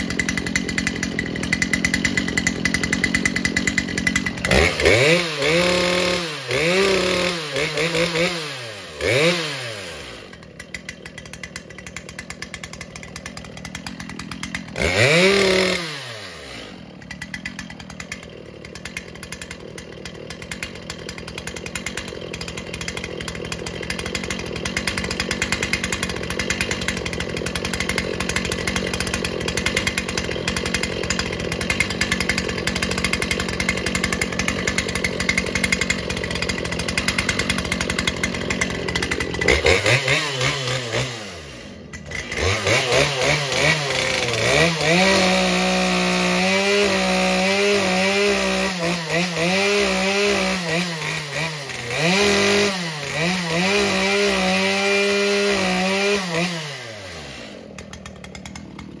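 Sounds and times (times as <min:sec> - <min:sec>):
chainsaw engine idling and revving: 0:00.0 - 0:59.0.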